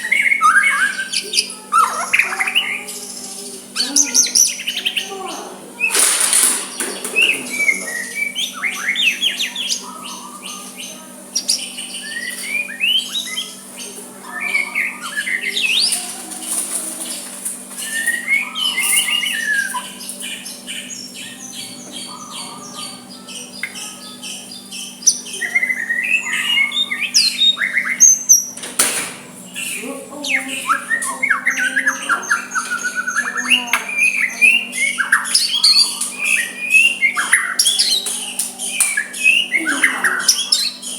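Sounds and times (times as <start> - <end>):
bird singing whistles and chirps: 0.0 - 5.1, 6.7 - 16.0, 17.8 - 28.6, 29.5 - 40.9.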